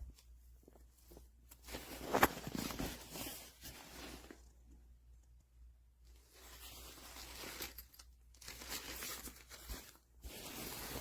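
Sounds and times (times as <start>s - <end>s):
handling rustling: 0.0s - 11.0s.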